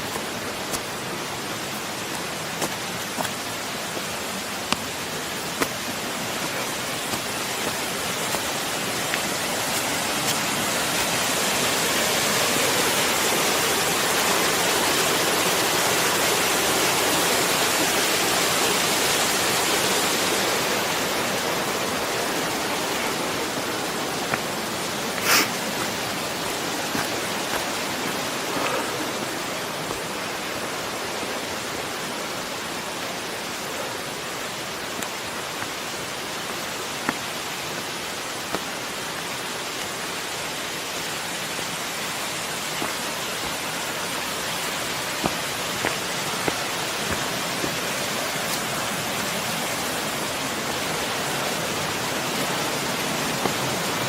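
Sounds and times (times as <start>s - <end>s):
flowing and falling water: 0.0s - 54.0s.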